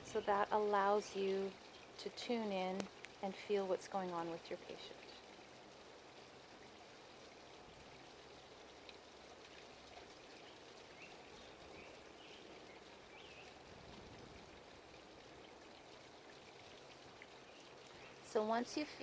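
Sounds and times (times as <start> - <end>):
faint room hiss: 0.0 - 19.0.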